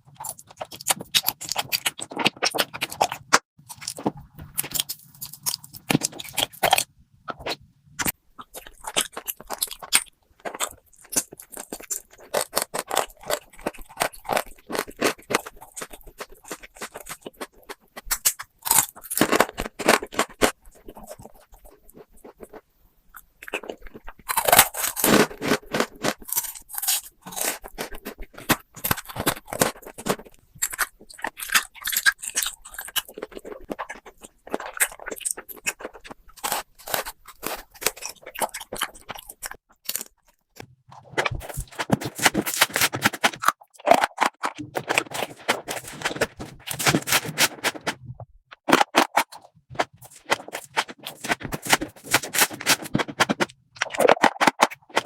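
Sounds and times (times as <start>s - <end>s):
close-miked crunching and chewing: 0.0s - 55.0s.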